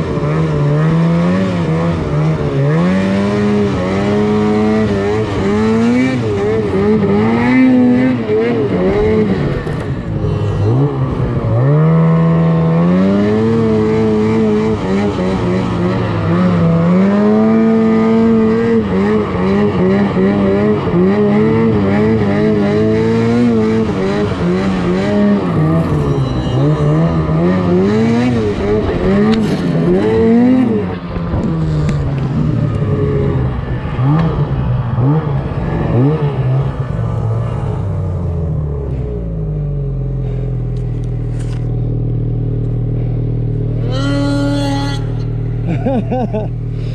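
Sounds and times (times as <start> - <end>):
snowmobile engine revving: 0.0 - 39.2, 43.7 - 46.9.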